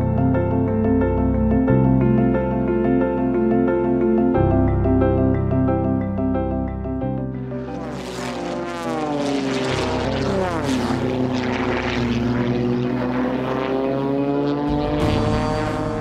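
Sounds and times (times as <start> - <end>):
plane engine and propeller: 0.0 - 16.0.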